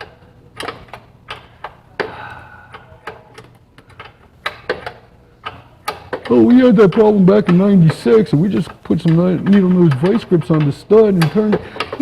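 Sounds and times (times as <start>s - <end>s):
faint steady hum: 0.0s - 12.0s
hand ratchet clicking: 0.0s - 12.0s.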